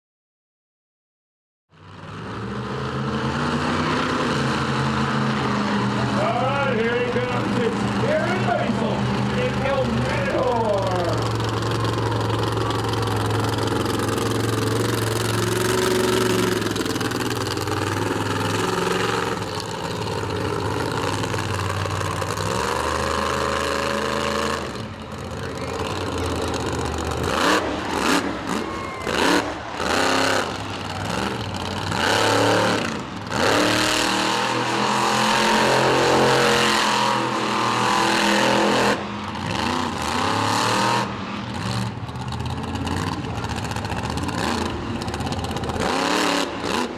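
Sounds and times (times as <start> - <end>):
monster truck engine revving: 1.7 - 46.9.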